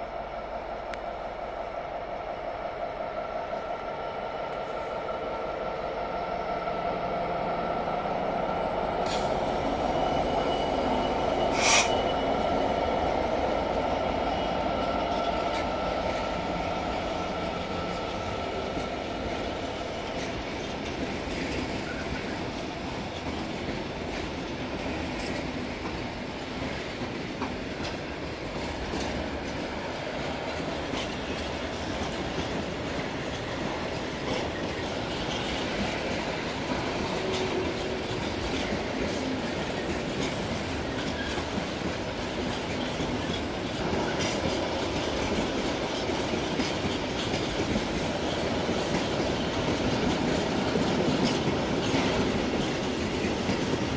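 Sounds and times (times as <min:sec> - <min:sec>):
train wheels rumbling on rail: 0:00.0 - 0:53.9
rail joint clicks: 0:03.5 - 0:06.0, 0:08.4 - 0:53.9.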